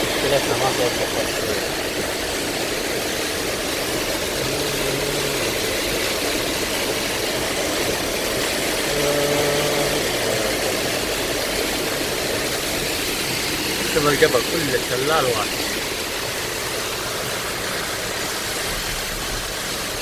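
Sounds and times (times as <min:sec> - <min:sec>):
heavy rain on a car: 0:00.0 - 0:20.0.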